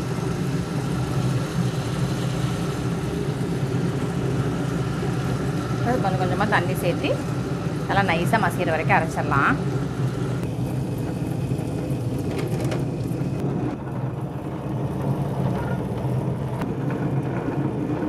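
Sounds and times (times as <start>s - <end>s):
wet grinder motor hum: 0.0s - 18.0s.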